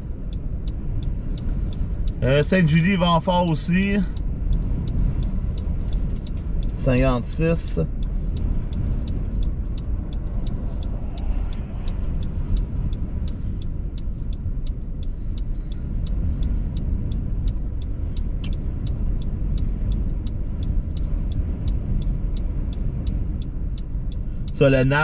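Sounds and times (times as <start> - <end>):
strong wind buffeting vehicle: 0.0 - 25.0
turn signal ticking: 0.0 - 25.0.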